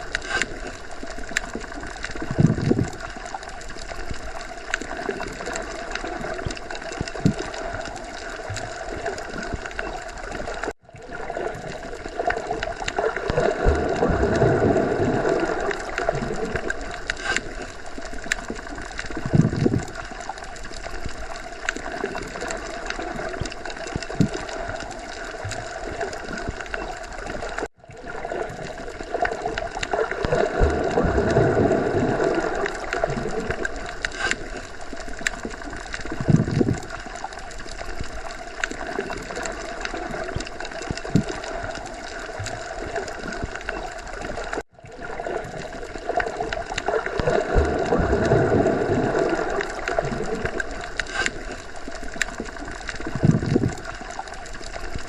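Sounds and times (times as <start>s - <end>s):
low underwater rumble: 0.0s - 55.0s
underwater watery wash: 0.0s - 55.0s
water gurgling: 0.0s - 55.0s.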